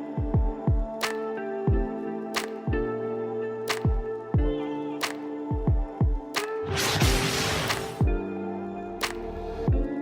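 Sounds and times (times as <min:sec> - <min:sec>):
background music with kick drums: 0:00.0 - 0:10.0.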